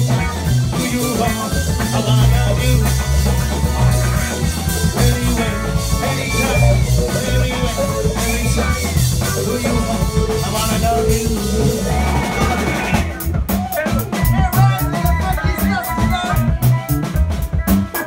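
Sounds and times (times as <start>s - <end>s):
funk band playing: 0.0s - 18.0s
person singing: 0.0s - 18.0s.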